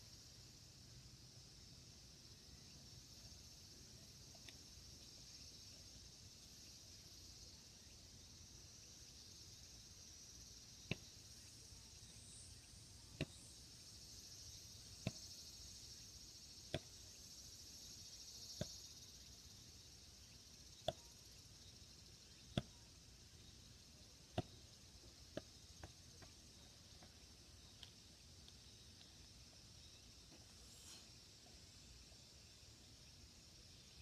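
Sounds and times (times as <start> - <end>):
faint high hiss: 0.0 - 34.0.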